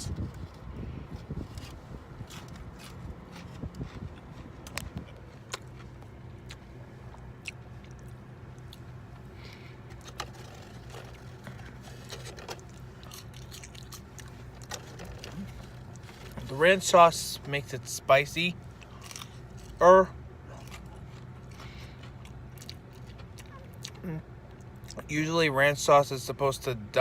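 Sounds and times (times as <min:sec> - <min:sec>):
chewing and crunching food: 0:00.0 - 0:25.1
steady low hum: 0:00.0 - 0:27.0.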